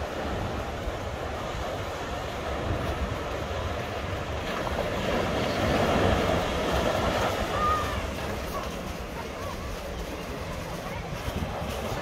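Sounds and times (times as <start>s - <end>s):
surf on rocky beach: 0.0s - 12.0s
wind rumbling on microphone: 0.0s - 12.0s.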